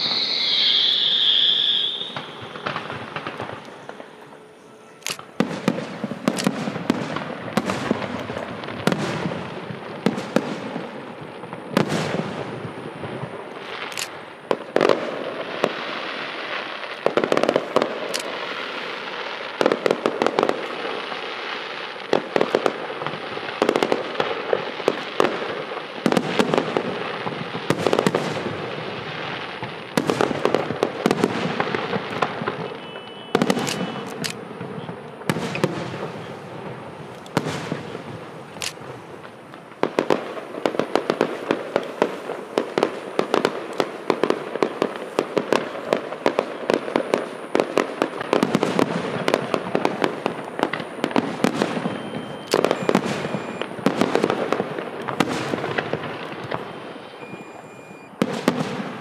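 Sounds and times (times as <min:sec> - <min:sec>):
firework bangs: 0:00.0 - 0:59.0
firework crackling: 0:00.0 - 0:59.0.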